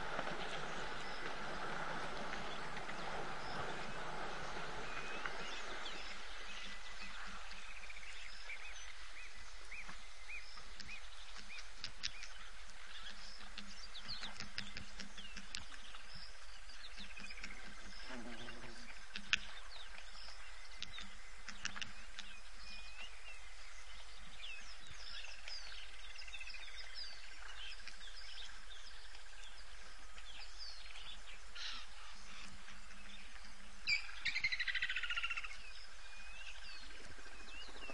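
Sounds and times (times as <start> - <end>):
birds whistling and chirping: 0.0 - 37.9.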